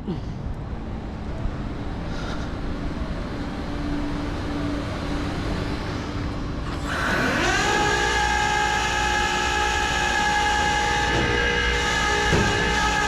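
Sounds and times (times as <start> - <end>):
outdoor traffic noise: 0.0 - 13.0
winch motor whine: 0.7 - 13.0.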